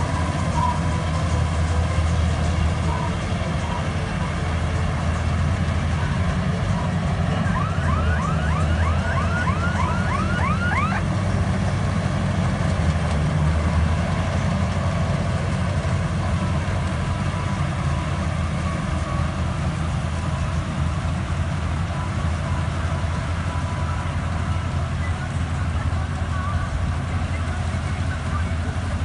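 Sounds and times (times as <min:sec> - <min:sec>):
combine harvester engine running: 0:00.0 - 0:29.0.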